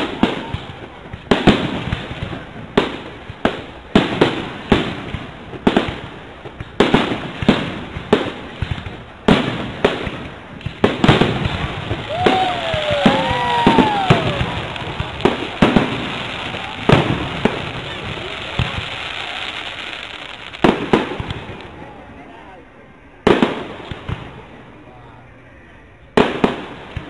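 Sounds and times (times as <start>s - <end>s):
fireworks bursting with crackle: 0.0s - 22.5s, 23.1s - 24.6s, 26.2s - 27.0s.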